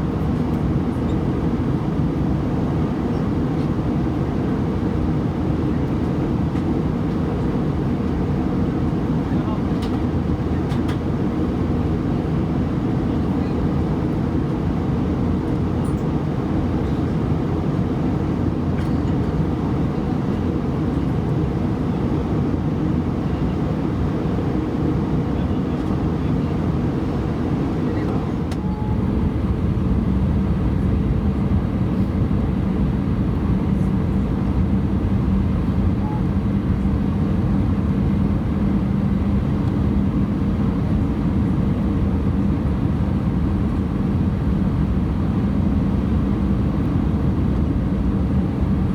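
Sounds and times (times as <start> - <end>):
airplane cabin engine rumble: 0.0 - 48.9.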